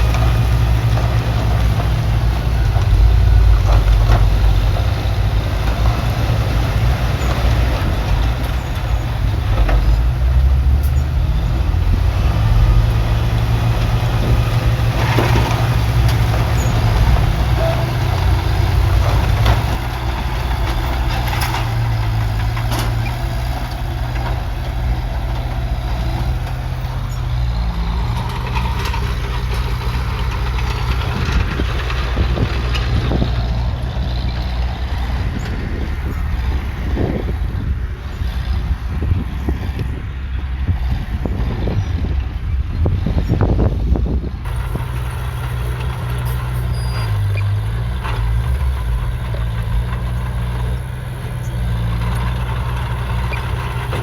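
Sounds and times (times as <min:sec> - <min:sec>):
diesel machine engine running: 0:00.0 - 0:54.0.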